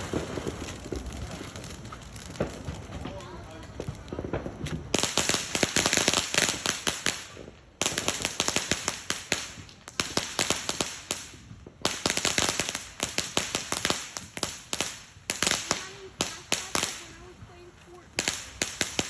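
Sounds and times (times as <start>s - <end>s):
firecrackers popping: 0.0s - 19.0s.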